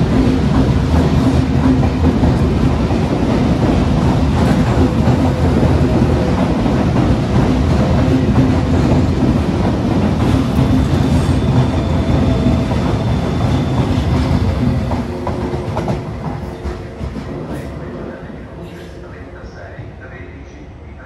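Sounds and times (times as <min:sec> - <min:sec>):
train wheels clattering over rails: 0:00.0 - 0:19.0.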